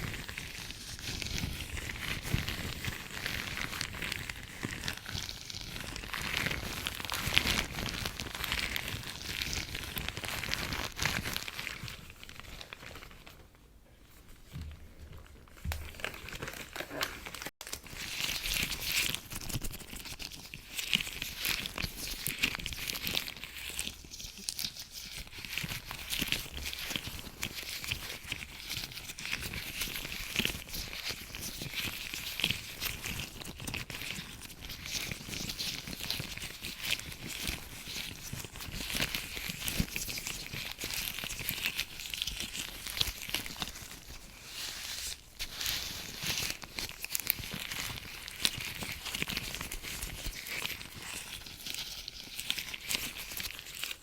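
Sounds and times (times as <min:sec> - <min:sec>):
latex gloves crinkling: 0:00.0 - 0:13.5, 0:14.3 - 0:54.0.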